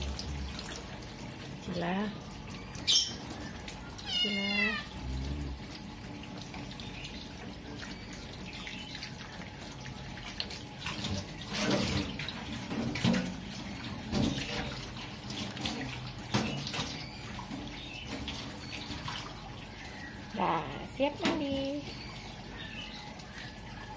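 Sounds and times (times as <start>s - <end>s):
running water: 0.0s - 23.9s
water splashing in a metal sink: 0.0s - 23.9s.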